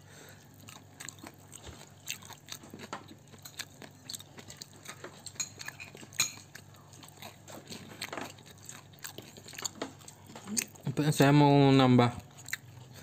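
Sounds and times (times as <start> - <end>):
chewing: 0.3 - 11.0, 12.2 - 13.0.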